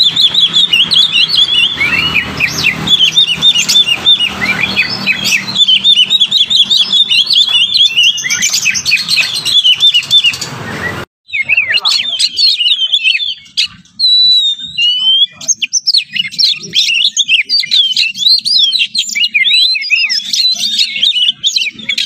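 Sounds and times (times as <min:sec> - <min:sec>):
birds singing chirps and trills: 0:00.0 - 0:22.0.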